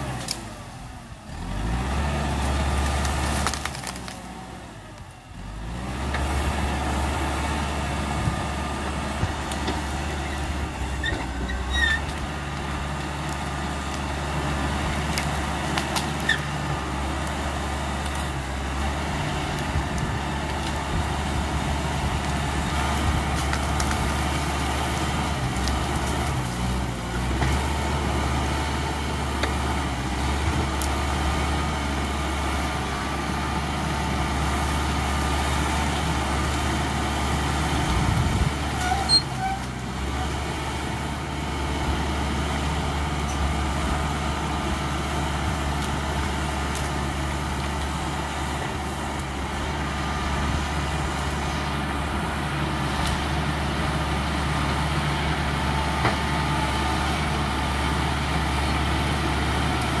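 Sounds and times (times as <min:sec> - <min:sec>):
bulldozer diesel engine under load: 0:00.0 - 1:00.0.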